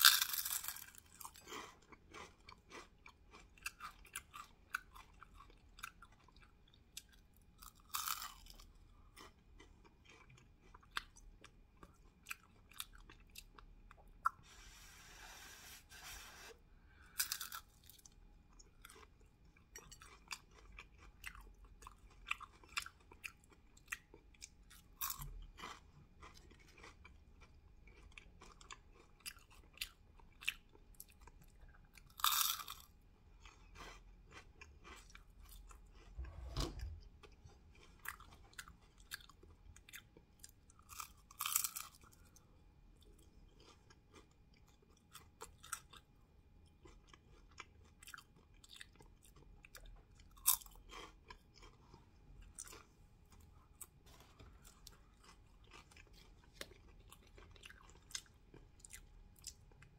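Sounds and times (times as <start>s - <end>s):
chewing crispy food: 0.0s - 14.6s, 17.0s - 59.9s.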